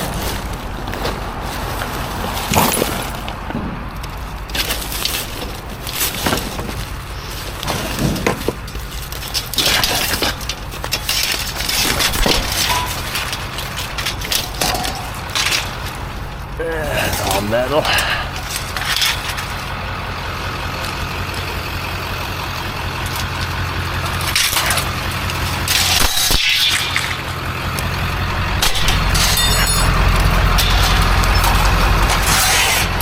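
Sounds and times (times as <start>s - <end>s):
scrap metal clanking: 0.0s - 19.7s, 22.6s - 33.0s.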